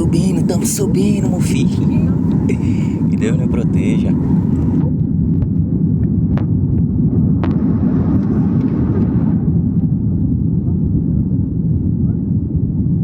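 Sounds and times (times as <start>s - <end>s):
aeroplane engine rumble: 0.0s - 13.0s.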